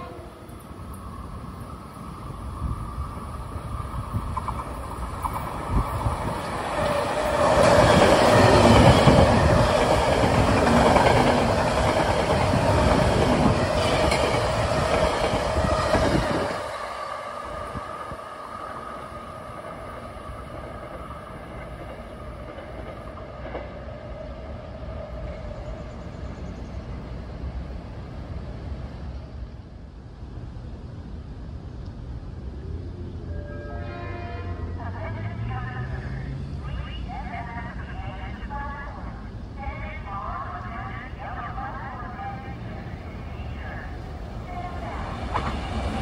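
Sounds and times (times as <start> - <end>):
electric train passing: 0.0 - 46.0.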